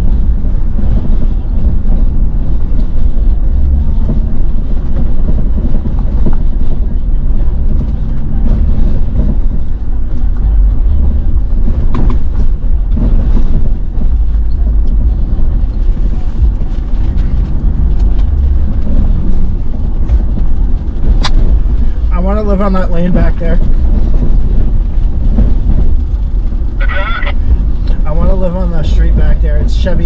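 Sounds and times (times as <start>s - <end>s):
knocks and rattles in cab: 0.0s - 30.0s
truck engine and road rumble: 0.0s - 30.0s.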